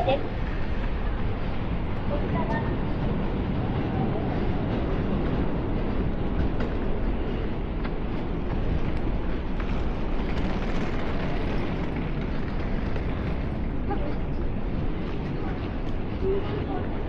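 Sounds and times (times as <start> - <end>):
low city street rumble: 0.0 - 17.0.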